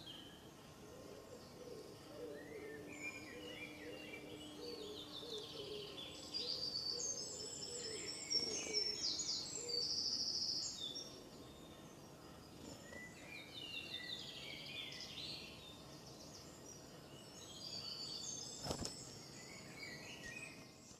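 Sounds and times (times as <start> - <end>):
faint outdoor hiss: 0.0 - 20.9
songbirds chirping and trilling: 0.0 - 20.9.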